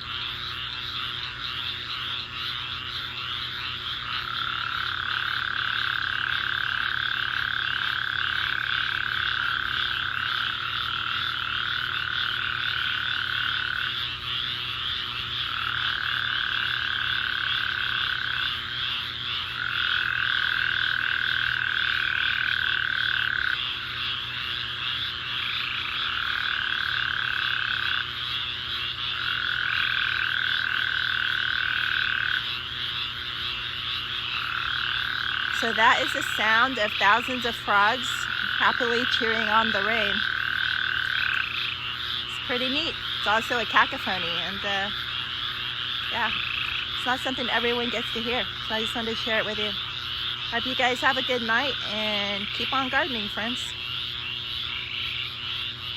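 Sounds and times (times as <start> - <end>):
frogs chorus calling: 0.0 - 55.9.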